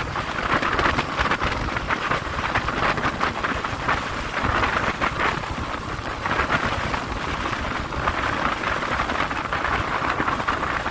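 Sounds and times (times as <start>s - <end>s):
wind rush over microphone: 0.0s - 10.9s.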